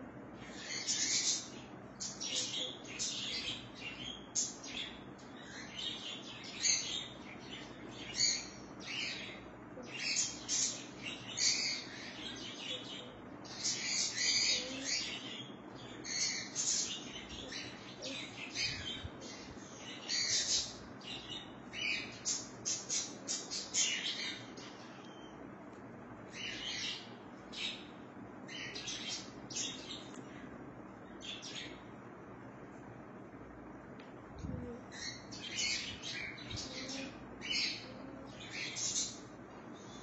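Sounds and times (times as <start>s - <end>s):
birds chirping: 0.1s - 32.4s, 34.4s - 40.0s.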